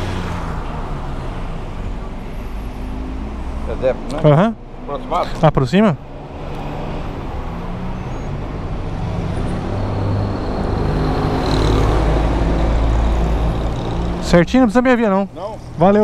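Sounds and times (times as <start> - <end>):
large road vehicle engine: 0.0 - 16.0.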